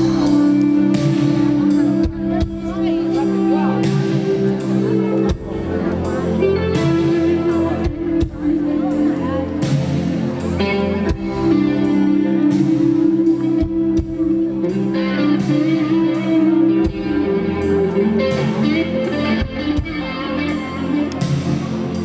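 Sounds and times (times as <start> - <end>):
electric guitar: 0.0 - 22.0
live band instrumental: 0.0 - 22.0.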